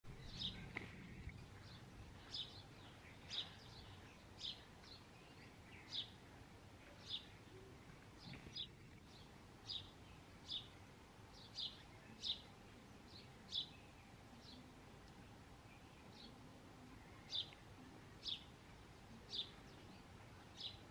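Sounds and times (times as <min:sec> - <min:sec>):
faint low background noise: 0:00.0 - 0:20.9
sparrows chirping: 0:00.1 - 0:20.9.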